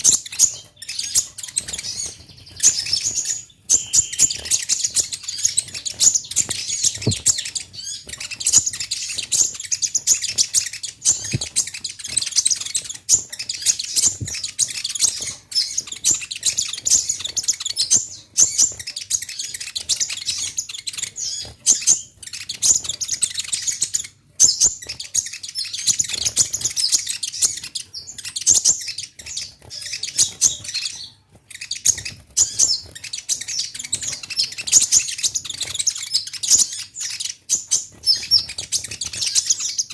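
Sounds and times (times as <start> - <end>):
sunbird chirping and twittering: 0.0 - 39.9.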